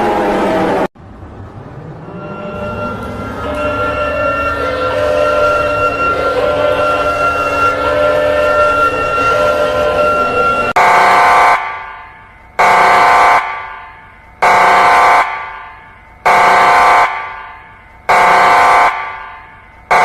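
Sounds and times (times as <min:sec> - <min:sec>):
emergency alert horn blasts: 0:02.0 - 0:20.0.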